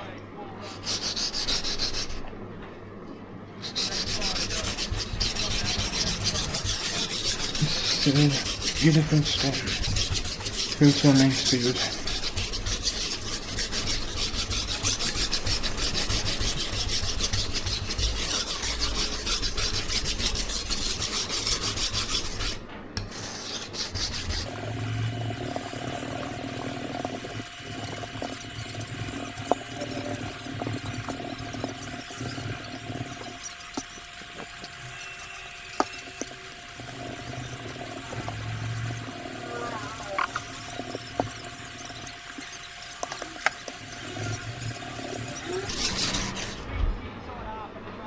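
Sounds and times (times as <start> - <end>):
steady hum: 0.0 - 48.0
knife scraping on whetstone: 3.6 - 46.7.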